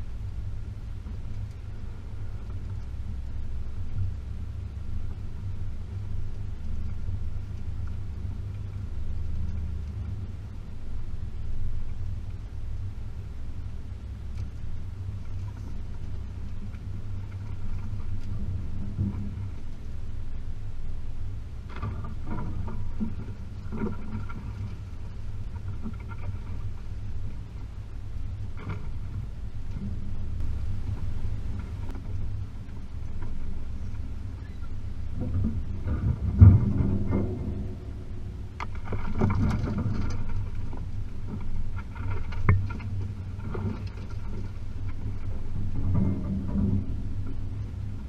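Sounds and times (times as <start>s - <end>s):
car engine rumble while driving: 0.0s - 48.0s.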